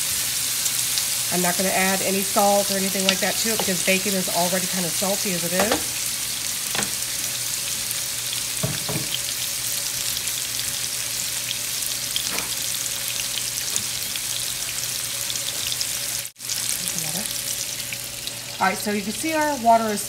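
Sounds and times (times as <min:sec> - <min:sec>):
bacon sizzling and crackling: 0:00.0 - 0:20.0.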